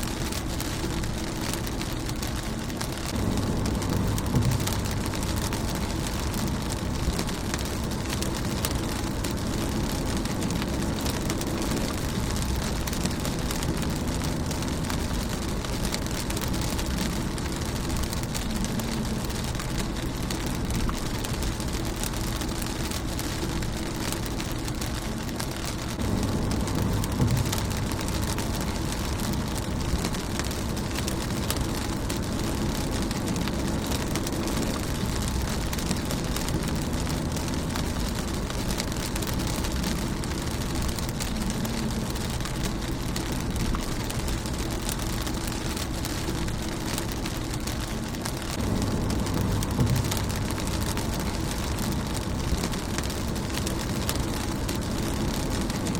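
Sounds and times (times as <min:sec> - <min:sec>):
low rumble: 0:00.0 - 0:55.9
rain on a car: 0:00.0 - 0:55.9.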